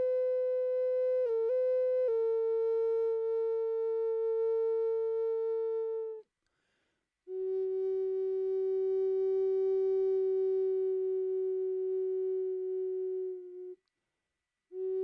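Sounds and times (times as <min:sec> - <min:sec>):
flute playing long tones: 0:00.0 - 0:06.3, 0:07.3 - 0:13.9, 0:14.7 - 0:15.0.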